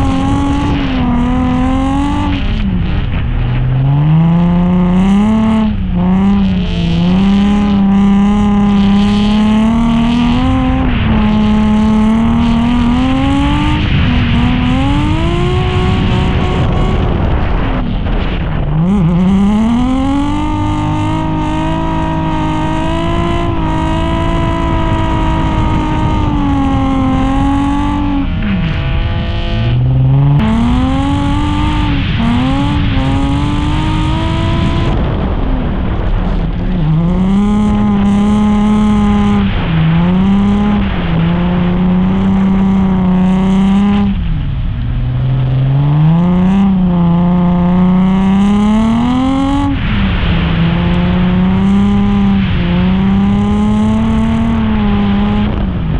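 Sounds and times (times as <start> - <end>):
car engine revving high: 0.0 - 55.9.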